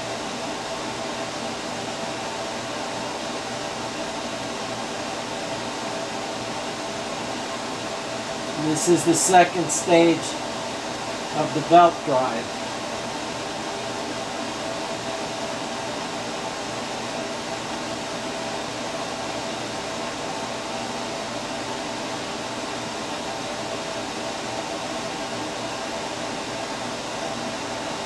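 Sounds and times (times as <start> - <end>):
fan whirring: 0.0 - 28.0.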